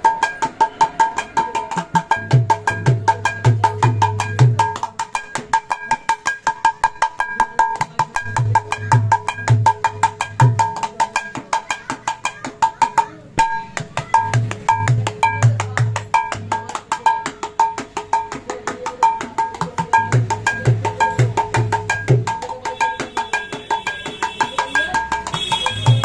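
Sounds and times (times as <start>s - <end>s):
hand drum treble strokes: 0.0s - 26.0s.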